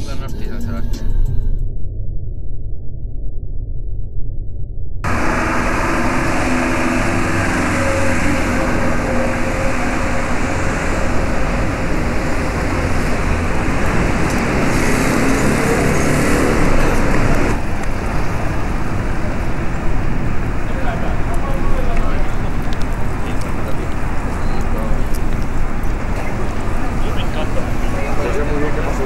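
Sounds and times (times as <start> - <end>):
road traffic rumble: 5.1 - 29.0.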